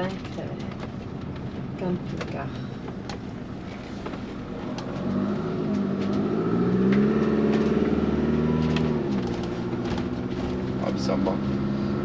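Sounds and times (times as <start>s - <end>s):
motorhome engine accelerating: 0.0s - 12.0s.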